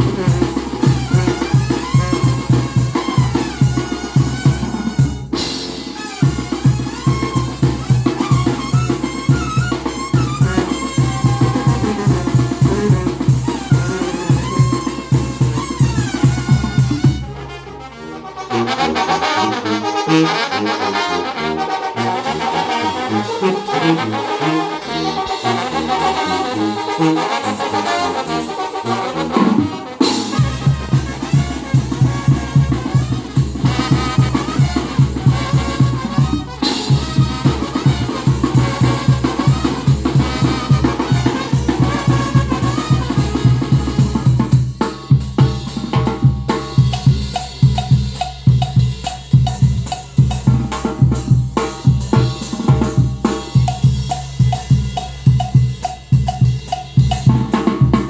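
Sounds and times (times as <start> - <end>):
drums fast beat: 0.0 - 17.4, 22.5 - 58.0
brass horns: 0.0 - 56.0.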